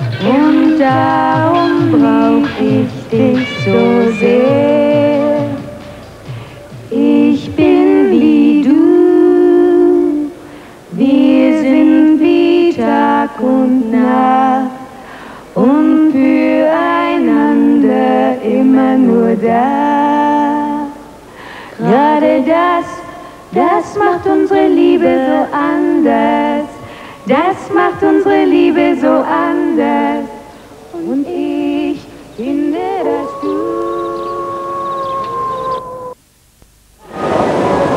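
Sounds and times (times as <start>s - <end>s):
women singing in harmony: 0.0s - 35.9s.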